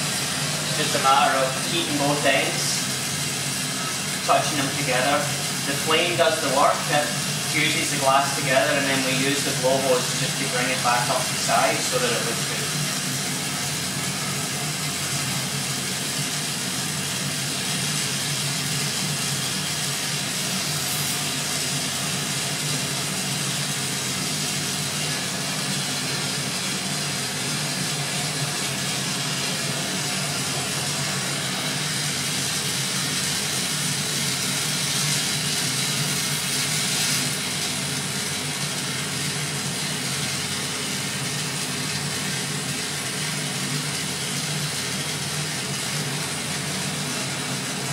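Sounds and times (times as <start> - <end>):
burner flames hissing: 0.0 - 47.9.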